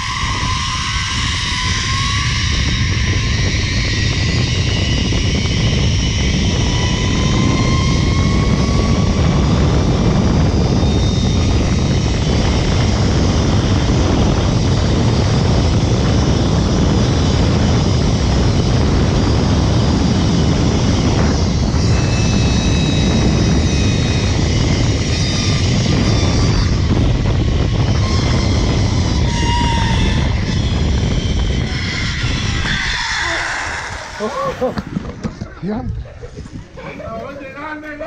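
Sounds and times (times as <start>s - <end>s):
pulleys running along cable: 0.0s - 35.2s
wind rushing over microphone: 0.0s - 38.0s.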